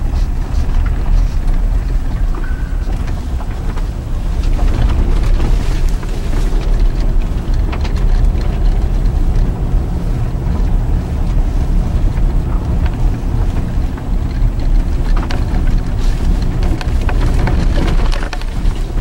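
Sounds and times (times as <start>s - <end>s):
light ticks and crunches: 0.0s - 19.0s
tyre and road rumble: 0.0s - 19.0s.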